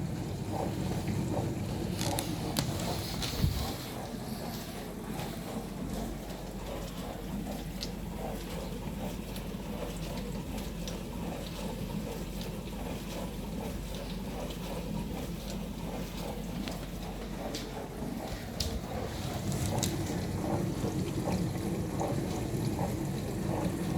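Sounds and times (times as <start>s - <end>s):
dishwasher pump hum: 0.0s - 23.9s.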